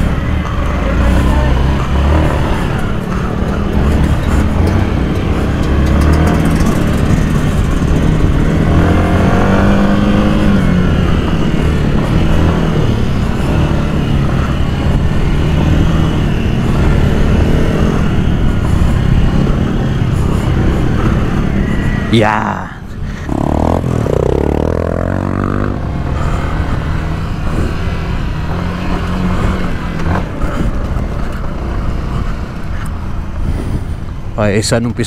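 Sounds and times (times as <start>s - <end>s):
dirt bike engine revving: 0.0s - 32.4s.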